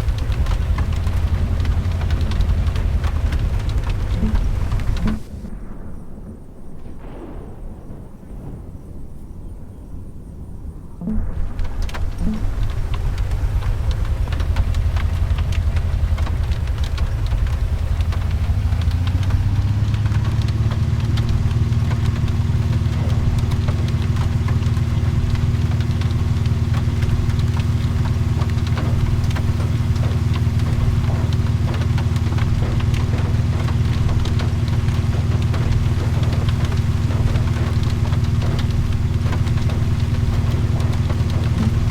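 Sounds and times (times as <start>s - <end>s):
car engine running: 0.0s - 5.5s, 11.0s - 41.9s
rain striking a car: 0.0s - 5.8s, 11.0s - 41.9s.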